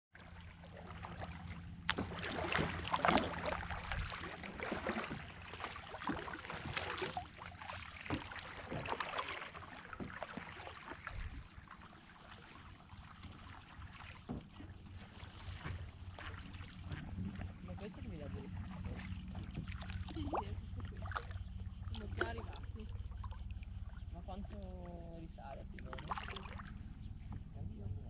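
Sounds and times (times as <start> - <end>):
paddle strokes splashing water: 0.2 - 27.5.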